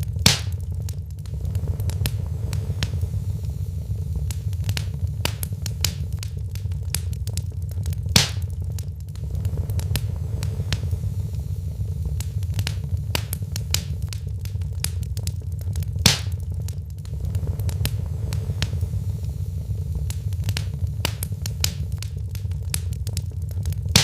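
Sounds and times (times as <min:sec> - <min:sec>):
fire crackling: 0:00.0 - 0:24.0
fire rumbling: 0:00.0 - 0:24.0
loud pop of fire: 0:00.0 - 0:24.0.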